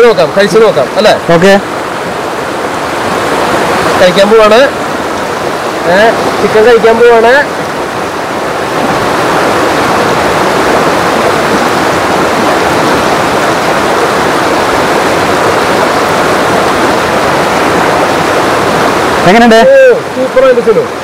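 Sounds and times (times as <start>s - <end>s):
river water rushing over rapids: 0.0s - 21.0s.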